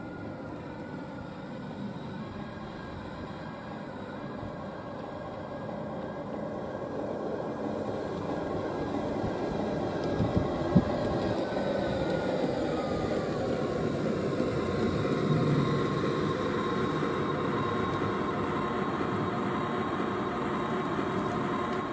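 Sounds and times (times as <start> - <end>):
model locomotive diesel engine sound: 0.0 - 21.9.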